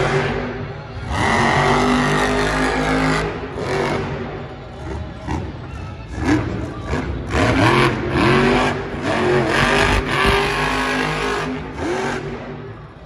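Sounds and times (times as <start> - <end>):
truck engine revving hard: 0.0 - 5.5, 6.1 - 12.6.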